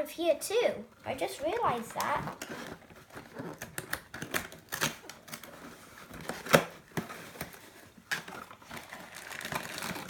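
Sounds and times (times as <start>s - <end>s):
plastic packaging rustling: 1.2s - 10.0s.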